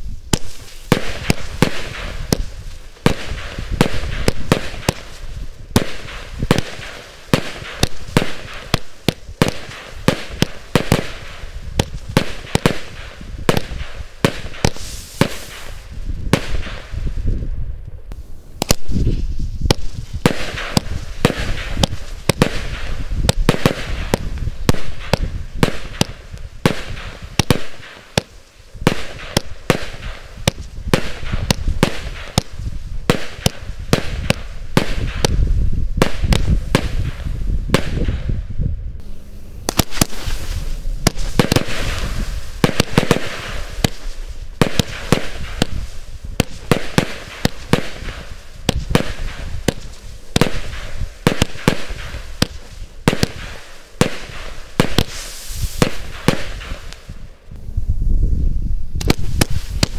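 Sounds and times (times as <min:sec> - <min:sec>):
firework shells bursting: 0:00.3 - 0:17.0, 0:18.1 - 0:38.3, 0:39.0 - 0:57.3, 0:59.0 - 0:59.9.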